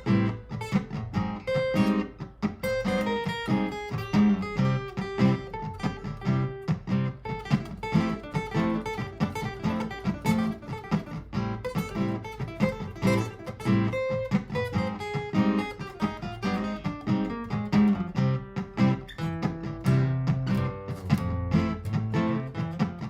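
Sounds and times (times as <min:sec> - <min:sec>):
looped strummed acoustic guitar: 0:00.0 - 0:23.0
plucked guitar notes: 0:00.0 - 0:23.0.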